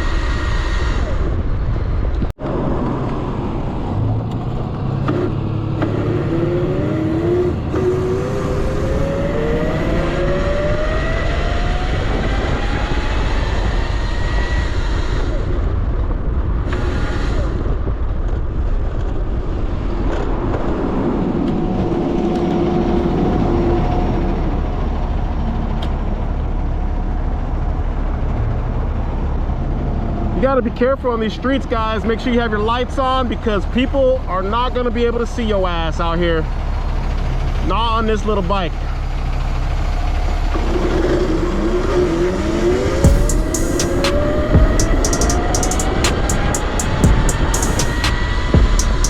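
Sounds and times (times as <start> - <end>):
wind and road noise: 0.0 - 49.0.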